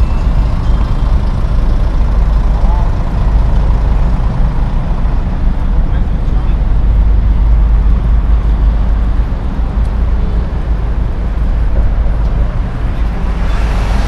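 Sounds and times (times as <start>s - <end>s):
motor vehicle rumble: 0.0s - 14.0s
road noise: 0.0s - 14.0s.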